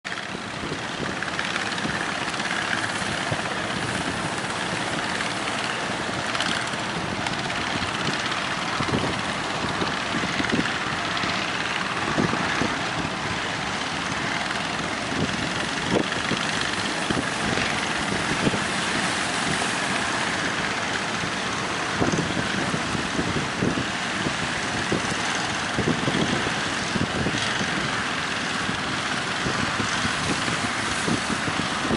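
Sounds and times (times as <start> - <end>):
motorboat engine running: 0.0 - 31.9
wind on microphone: 0.2 - 31.9.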